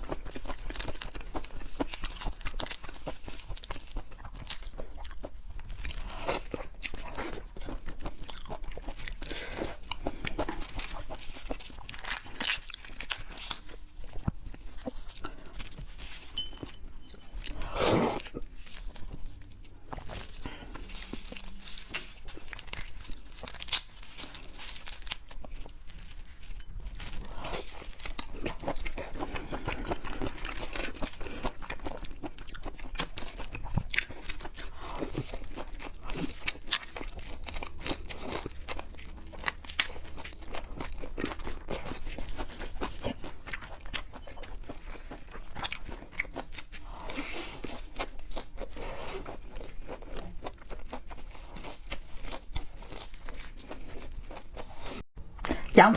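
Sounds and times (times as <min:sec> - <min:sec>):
crunching and chewing seafood: 0:00.0 - 0:55.8.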